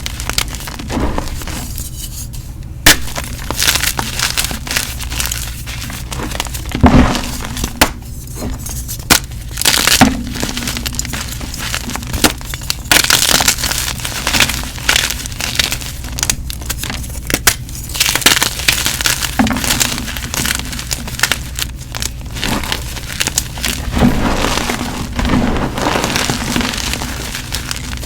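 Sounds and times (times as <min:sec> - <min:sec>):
chalk crunching and crumbling: 0:00.0 - 0:28.0.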